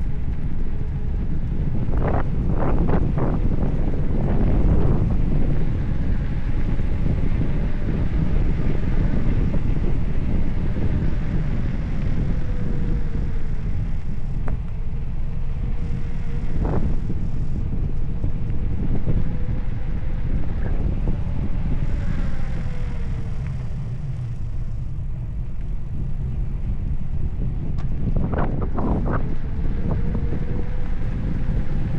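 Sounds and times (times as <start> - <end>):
faint wavering whine: 0.0 - 31.9
wind buffeting microphone: 0.0 - 31.9.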